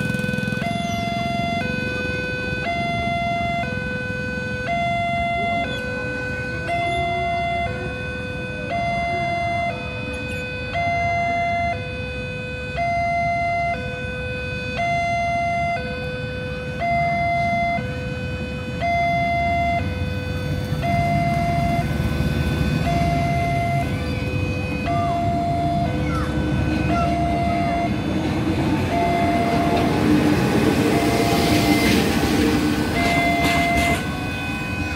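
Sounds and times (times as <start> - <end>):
locomotive diesel engine: 0.0 - 34.9
two-tone warning alarm: 0.0 - 34.9.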